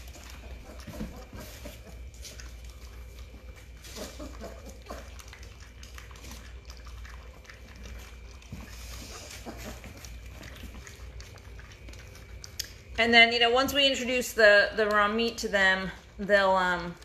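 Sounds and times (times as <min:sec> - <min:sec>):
puppies lapping milk: 0:00.0 - 0:17.0.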